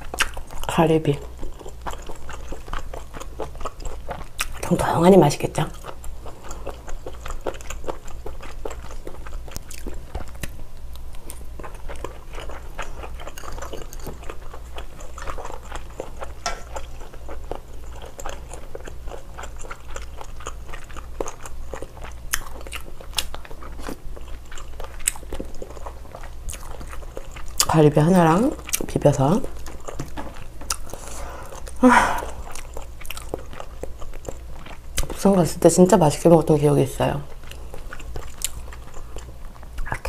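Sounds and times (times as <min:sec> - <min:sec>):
person chewing with wet mouth clicks: 0:00.0 - 0:04.7, 0:05.7 - 0:27.8, 0:28.5 - 0:35.2, 0:37.3 - 0:40.0
steady low hum: 0:00.0 - 0:40.0.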